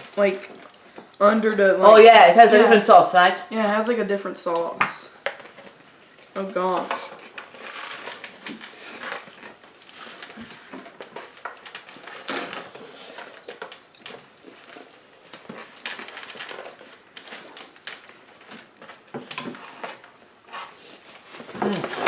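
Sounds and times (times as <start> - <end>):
crackles and clicks: 4.0 - 22.0.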